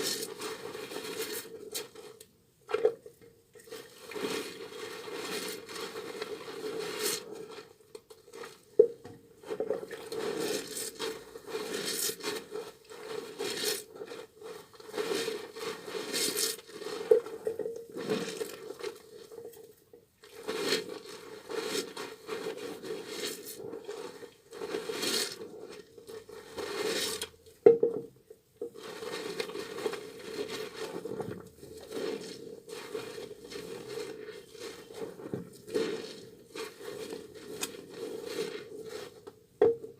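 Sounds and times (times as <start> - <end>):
wet soap rubbing and squishing: 0.0 - 27.6, 28.2 - 39.9.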